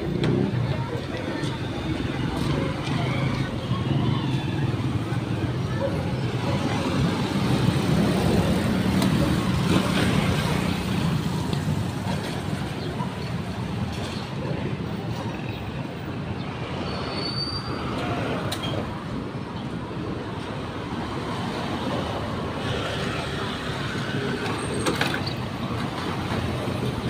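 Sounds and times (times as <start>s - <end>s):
passing vehicles: 0.0s - 27.0s.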